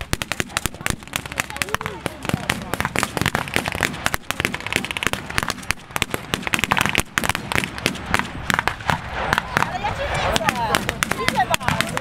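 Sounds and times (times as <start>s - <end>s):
rifles firing blanks: 0.0s - 12.0s.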